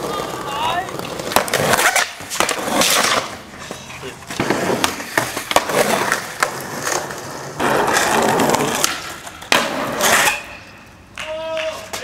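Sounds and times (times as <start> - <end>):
skateboard clacks and impacts: 0.0 - 3.3, 4.3 - 12.0
skateboard wheels rolling on pavement: 0.0 - 12.0.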